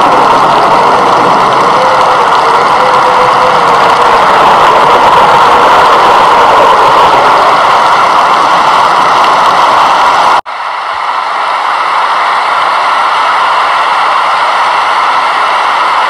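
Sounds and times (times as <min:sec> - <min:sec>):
loud steady rushing noise: 0:00.0 - 0:16.0.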